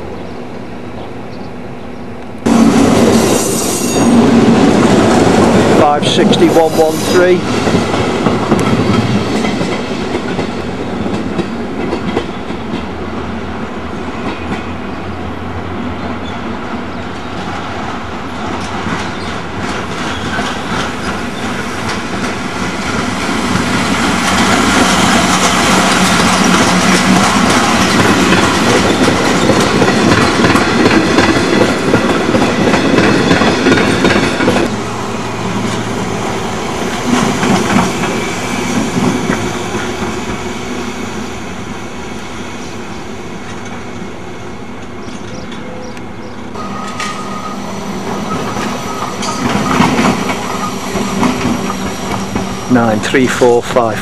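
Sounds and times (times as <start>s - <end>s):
train wheels clattering over rails: 2.4s - 13.4s, 16.2s - 34.8s, 35.4s - 40.6s, 44.7s - 53.7s.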